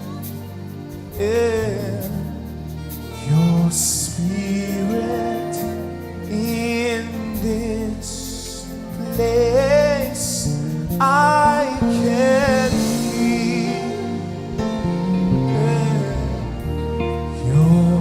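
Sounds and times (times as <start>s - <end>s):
person singing melismatic lines: 0.0s - 18.0s
slow sustained chords: 0.0s - 18.0s.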